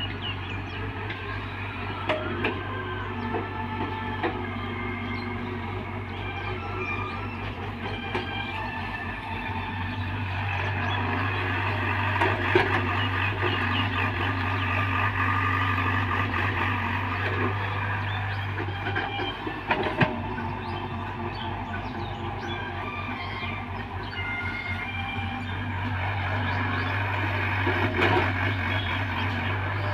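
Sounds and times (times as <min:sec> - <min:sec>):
diesel excavator engine: 0:00.0 - 0:29.9
hydraulic whine: 0:00.0 - 0:29.9.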